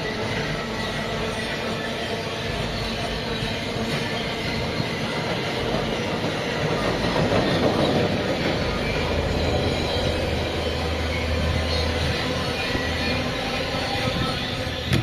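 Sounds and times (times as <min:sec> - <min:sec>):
train passing on track: 0:00.0 - 0:15.0.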